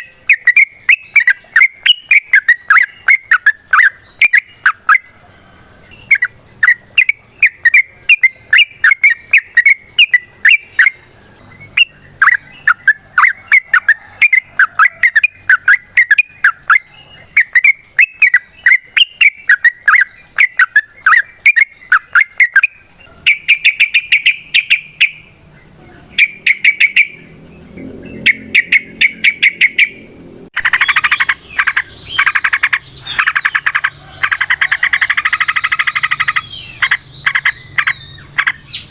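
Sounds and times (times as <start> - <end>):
bulbul calling: 0.0 - 38.9.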